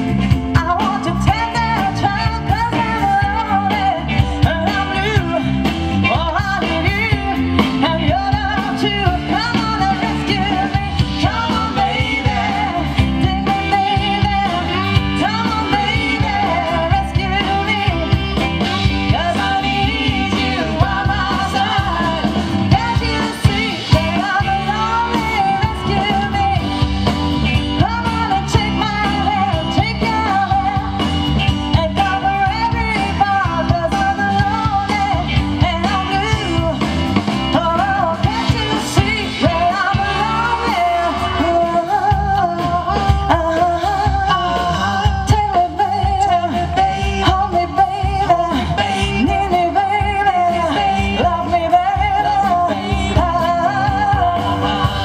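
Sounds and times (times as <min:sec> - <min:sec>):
electric guitar: 0:00.0 - 0:55.0
woman singing into a microphone: 0:00.0 - 0:55.0.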